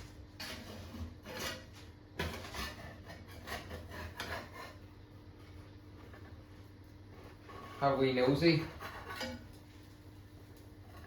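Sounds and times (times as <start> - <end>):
spatula scraping frying pan: 0.0 - 10.0, 10.7 - 11.0.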